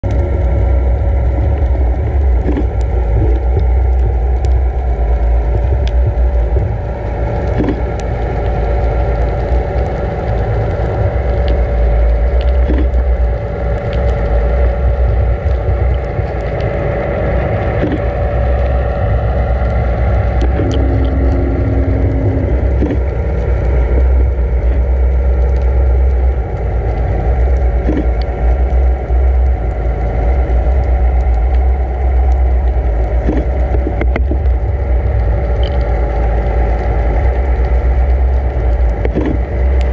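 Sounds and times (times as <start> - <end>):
boat engine drone underwater: 0.0 - 39.9.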